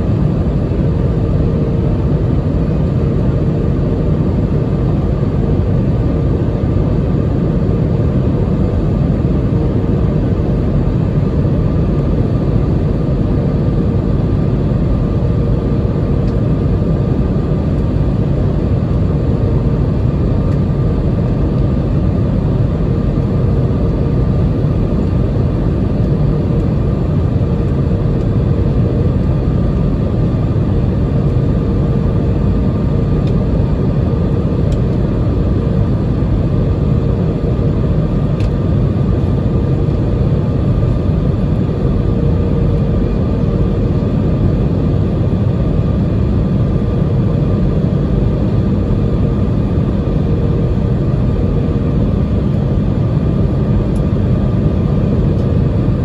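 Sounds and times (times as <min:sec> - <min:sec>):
jet engines and airflow rumble: 0:00.0 - 0:56.0.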